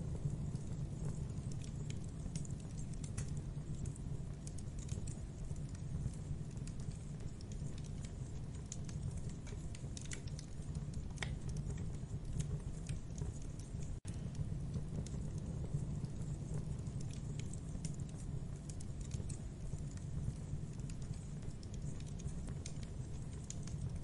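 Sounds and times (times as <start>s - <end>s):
campfire crackling and popping: 0.0s - 24.0s
fire low rumble: 0.0s - 24.0s.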